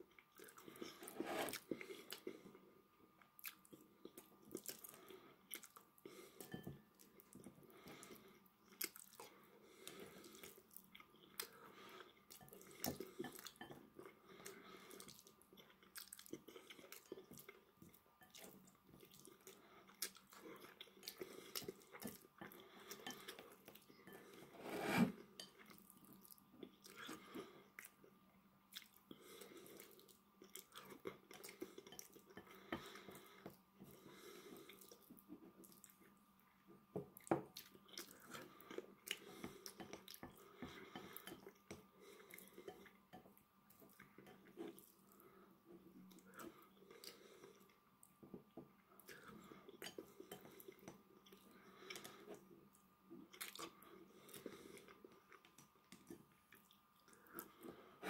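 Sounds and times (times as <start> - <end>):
chewing food: 3.2 - 24.3, 28.7 - 36.2, 37.1 - 57.9.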